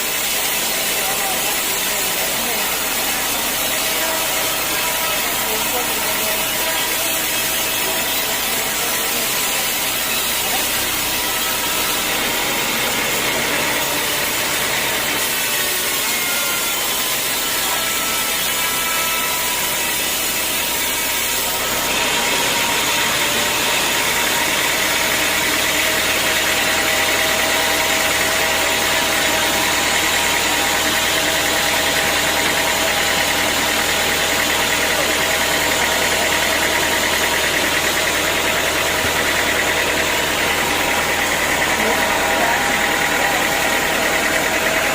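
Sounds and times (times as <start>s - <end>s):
sawmill machinery humming: 0.0s - 44.9s.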